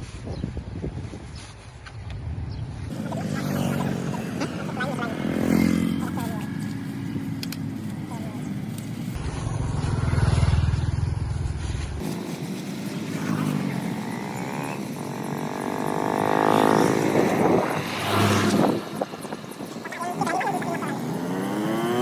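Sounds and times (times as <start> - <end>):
vehicle engine running: 2.9 - 22.0.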